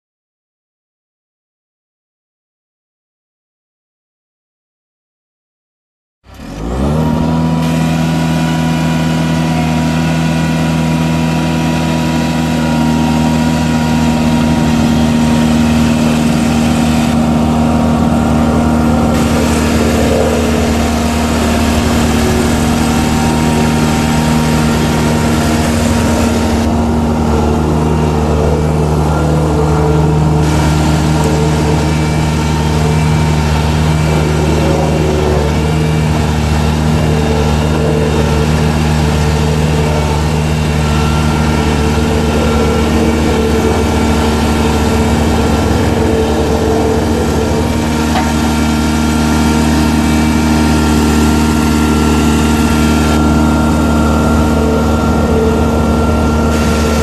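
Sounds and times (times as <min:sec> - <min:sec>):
diesel engine running: 0:06.3 - 0:57.0.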